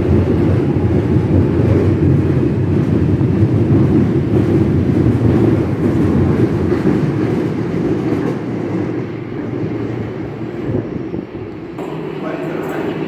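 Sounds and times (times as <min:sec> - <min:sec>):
underground train pulling out: 0:00.0 - 0:13.0.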